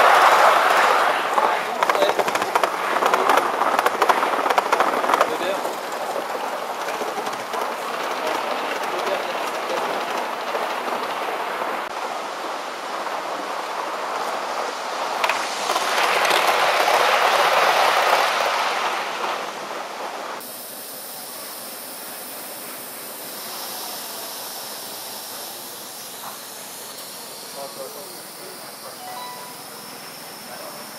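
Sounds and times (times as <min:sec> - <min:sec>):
steam hissing from model locomotive: 0:00.0 - 0:19.5, 0:20.1 - 0:30.9
model trains rattling on track: 0:00.0 - 0:30.9.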